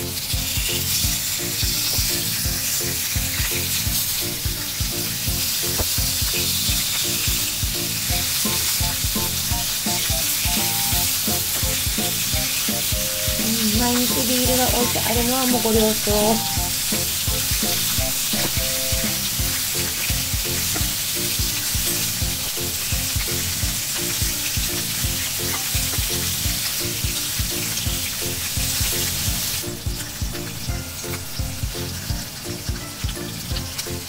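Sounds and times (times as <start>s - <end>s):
background music with light beat: 0.0s - 34.0s
meat sizzling in a grill pan: 0.0s - 34.0s.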